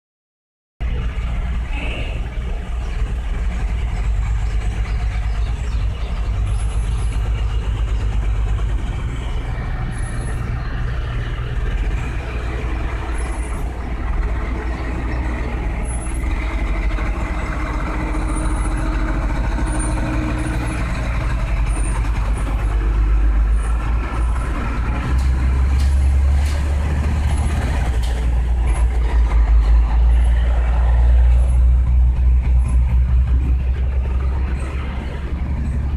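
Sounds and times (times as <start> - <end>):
truck engine rumbling: 0.8 - 35.9.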